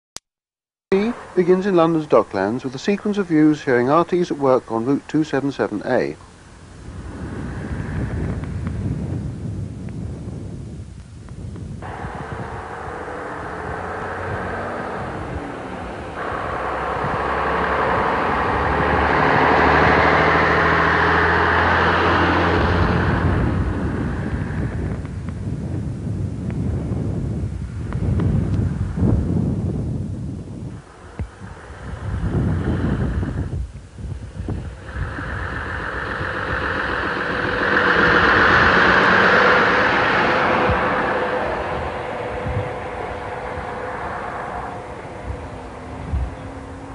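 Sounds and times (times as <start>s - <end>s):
bus diesel engine passing: 0.9s - 4.6s, 11.8s - 29.8s, 30.5s - 46.9s.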